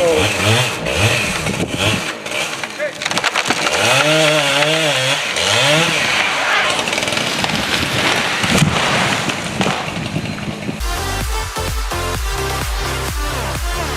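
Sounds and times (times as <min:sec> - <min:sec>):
chainsaw cutting at full throttle: 0:00.0 - 0:13.9.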